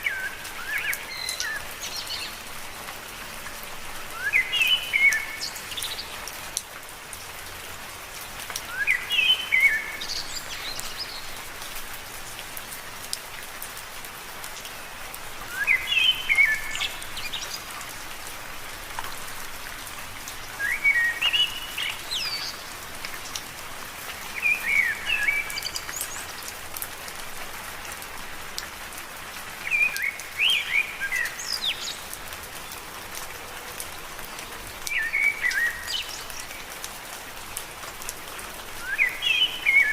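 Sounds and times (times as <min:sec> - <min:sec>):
rain falling on leaves: 0:00.0 - 0:39.9
water drips: 0:00.0 - 0:39.9.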